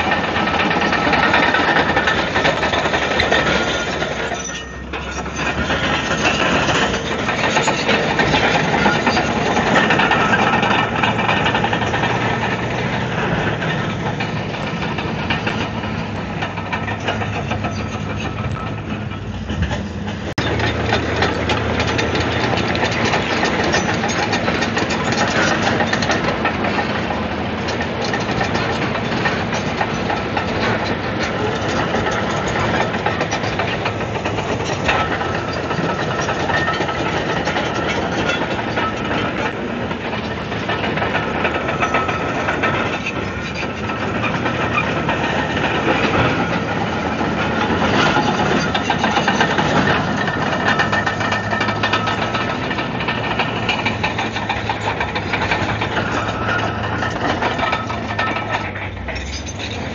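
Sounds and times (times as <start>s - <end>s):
bulldozer diesel engine running: 0.0s - 59.9s
crawler tracks clattering: 0.0s - 59.9s.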